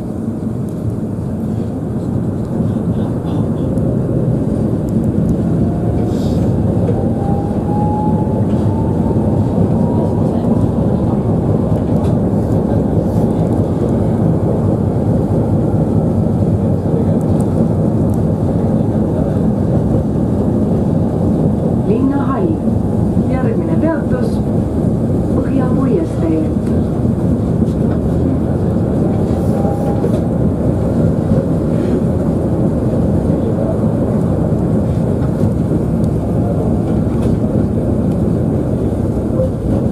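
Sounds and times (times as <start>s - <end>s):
rising vehicle whine: 0.0s - 39.9s
vehicle motor and road rumble: 0.0s - 39.9s.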